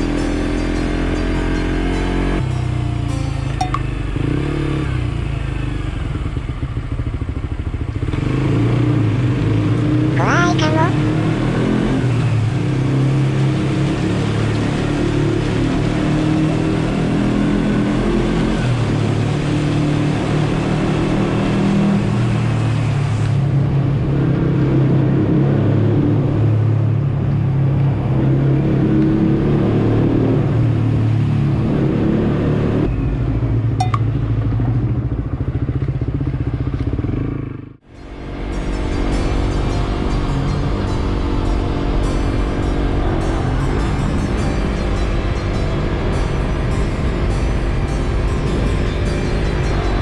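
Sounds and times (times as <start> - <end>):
motorcycle engine running: 0.0 - 25.2, 30.4 - 50.0
wind and road noise: 0.0 - 50.0.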